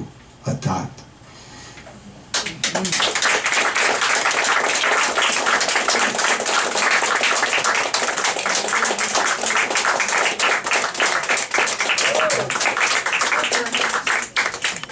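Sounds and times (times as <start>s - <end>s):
audience applauding: 2.3s - 14.9s.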